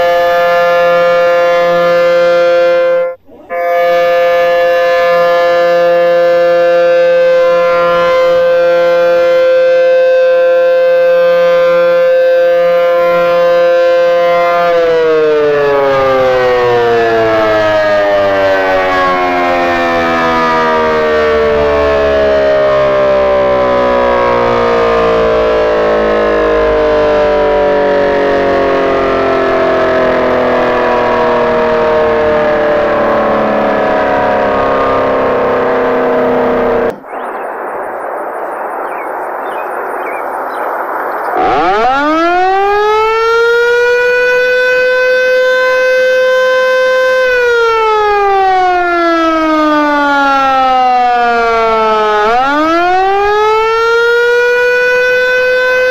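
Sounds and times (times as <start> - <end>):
warning siren winding: 0.0 - 37.1, 41.4 - 55.9.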